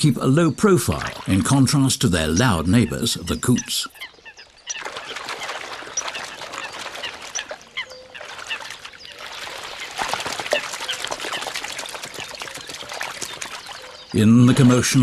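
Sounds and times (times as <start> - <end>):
splashing on water: 0.9 - 15.0.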